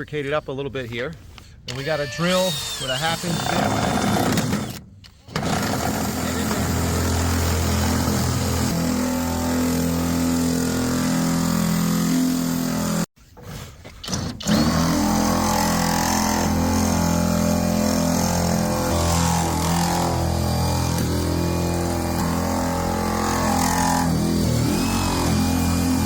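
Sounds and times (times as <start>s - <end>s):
electric drill drilling: 1.7s - 13.1s, 14.4s - 26.0s.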